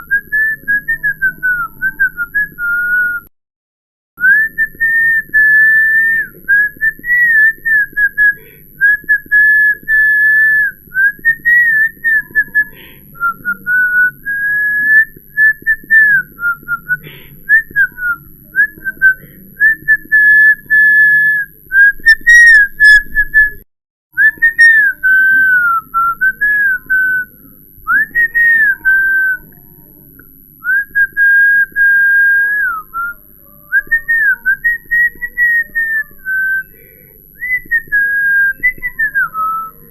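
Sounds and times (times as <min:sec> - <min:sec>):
person whistling: 0:00.0 - 0:03.3, 0:04.2 - 0:23.6, 0:24.2 - 0:27.3, 0:27.9 - 0:29.5, 0:30.6 - 0:33.2, 0:33.8 - 0:39.8.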